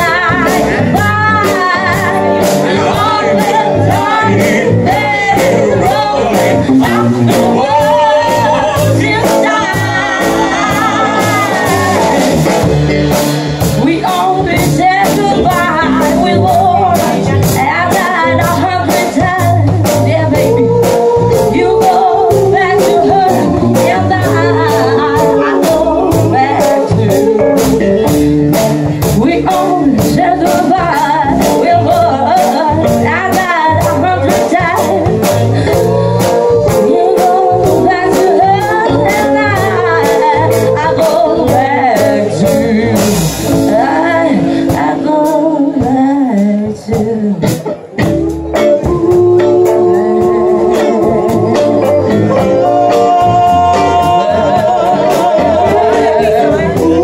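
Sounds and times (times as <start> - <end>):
person singing: 0.0 - 12.8, 13.6 - 57.0
live rock band playing: 0.0 - 57.0.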